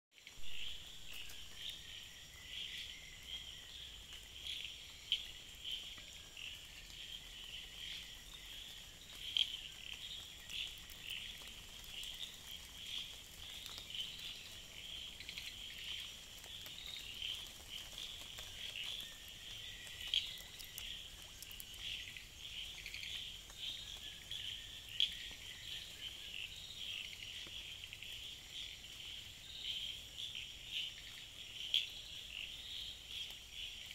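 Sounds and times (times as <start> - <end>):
insects and frogs trilling: 0.2 - 33.9.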